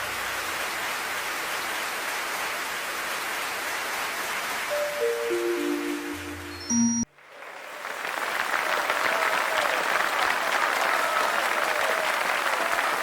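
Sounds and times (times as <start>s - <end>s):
audience applauding: 0.3s - 6.1s, 7.1s - 13.0s.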